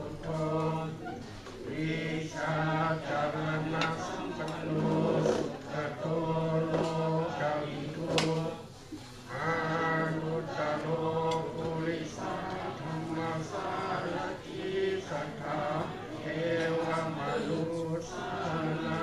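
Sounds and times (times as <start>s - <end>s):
monks chanting in unison: 0.0s - 19.0s.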